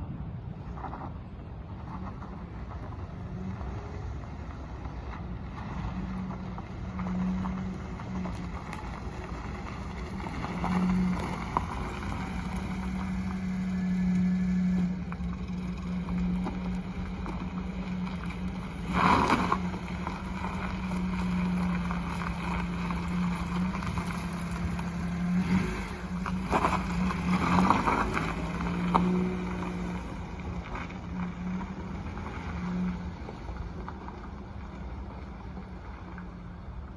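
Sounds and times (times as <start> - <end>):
truck engine humming: 0.0 - 36.9.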